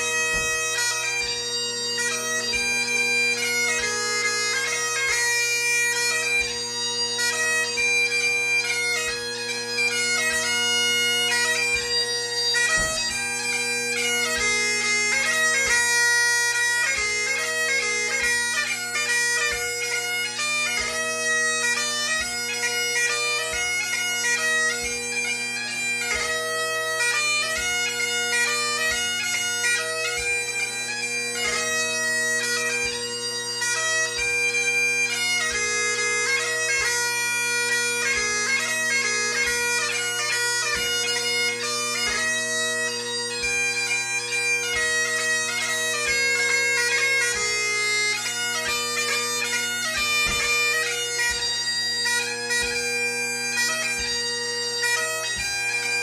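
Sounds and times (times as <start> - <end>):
bagpipe playing: 0.0 - 56.0.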